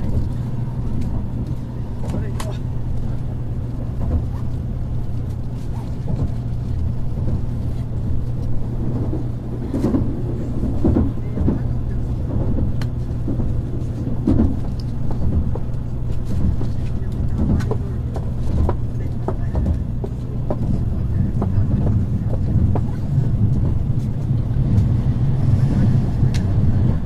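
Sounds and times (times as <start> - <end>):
train cabin rumble: 0.0 - 27.0.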